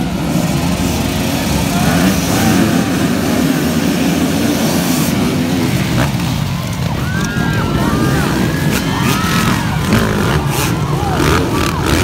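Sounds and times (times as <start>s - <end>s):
dirt bikes revving and accelerating: 0.0s - 12.0s.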